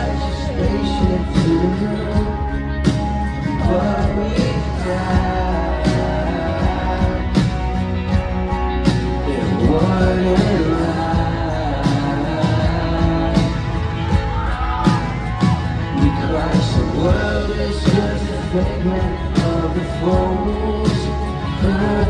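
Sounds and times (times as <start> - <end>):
person singing: 0.0 - 7.8, 9.2 - 22.0
live rock band playing: 0.0 - 22.0.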